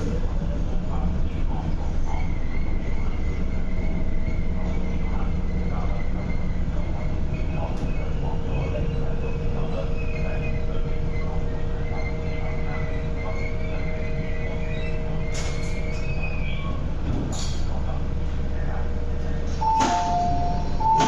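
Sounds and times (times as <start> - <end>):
train rumble and hum: 0.0 - 21.0
train whine: 0.0 - 21.0.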